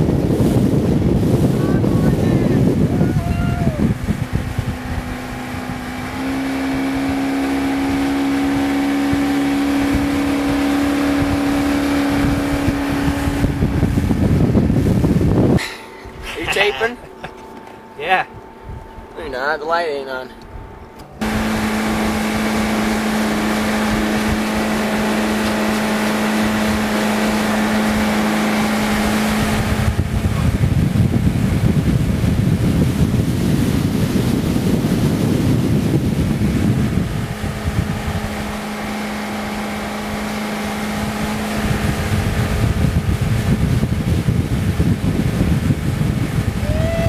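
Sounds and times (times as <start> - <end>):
boat motor humming: 0.0 - 47.0
wind buffeting microphone: 0.0 - 47.0.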